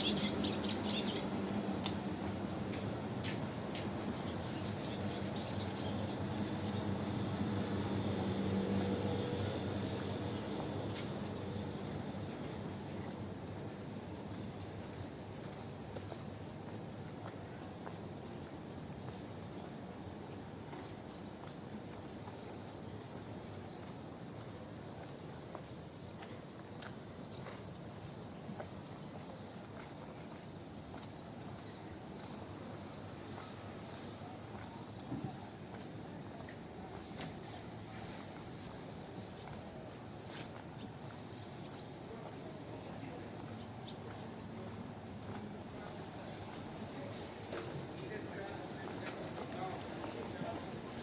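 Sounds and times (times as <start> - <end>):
outdoor background noise: 0.0 - 51.0.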